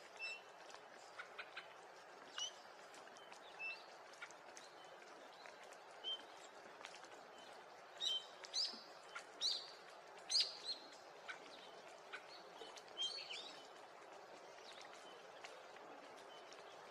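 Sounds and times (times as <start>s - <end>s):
faint background hiss: 0.0s - 16.9s.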